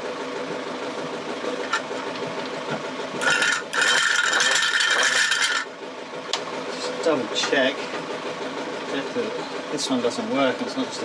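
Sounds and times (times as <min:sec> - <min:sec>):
pump motor whirring: 0:00.0 - 0:11.0.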